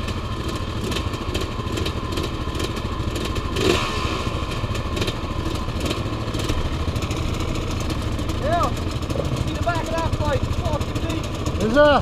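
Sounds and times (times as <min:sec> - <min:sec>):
off-road engines idling: 0:00.0 - 0:12.0.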